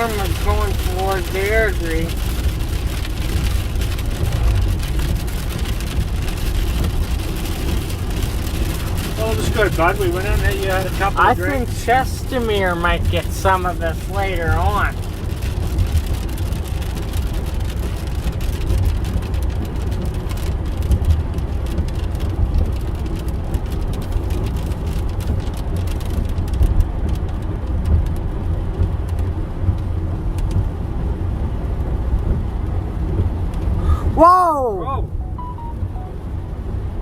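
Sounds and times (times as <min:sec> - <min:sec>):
rain striking car body: 0:00.0 - 0:33.9
road and engine rumble: 0:00.0 - 0:37.0.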